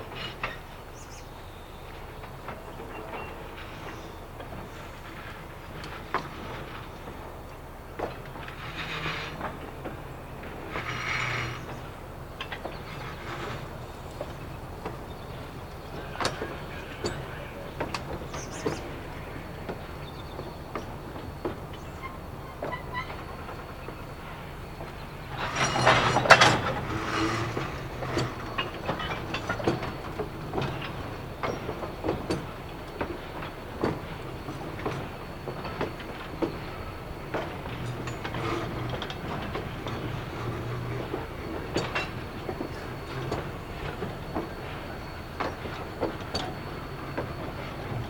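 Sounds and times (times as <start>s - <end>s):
train cars rolling on track: 0.0s - 48.0s
wheels clicking over rail joints: 0.0s - 48.0s.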